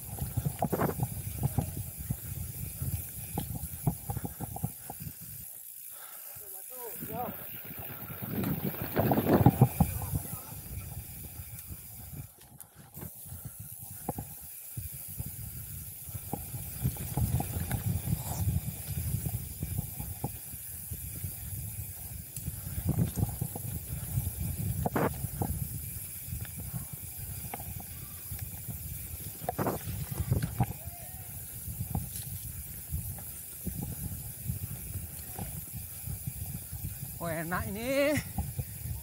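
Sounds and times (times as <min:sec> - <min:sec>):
wind rumble on microphone: 0:00.0 - 0:05.5, 0:07.0 - 0:39.0
bike knocking and rattling: 0:00.0 - 0:39.0.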